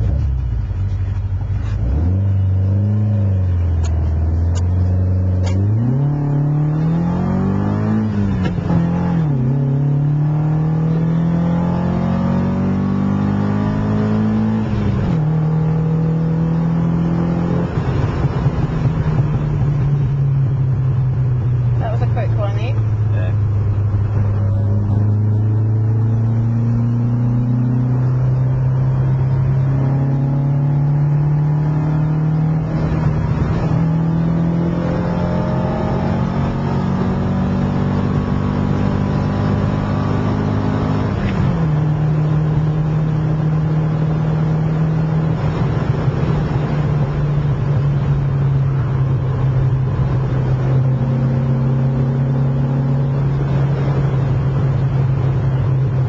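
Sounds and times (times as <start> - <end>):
car engine while driving: 0.0 - 56.0.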